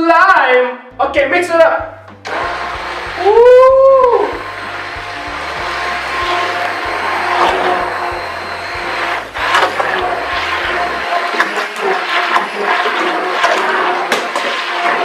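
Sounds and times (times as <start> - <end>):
electric hand mixer whining: 2.2 - 15.0.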